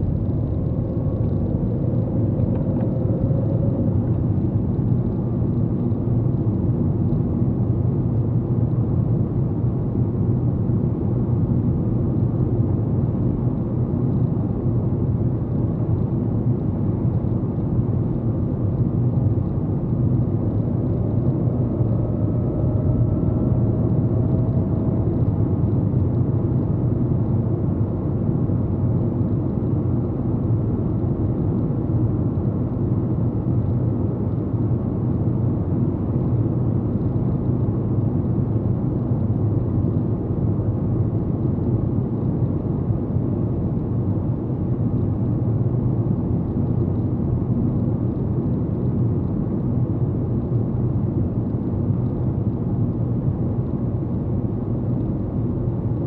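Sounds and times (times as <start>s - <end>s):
road and engine noise in car: 0.0s - 56.0s.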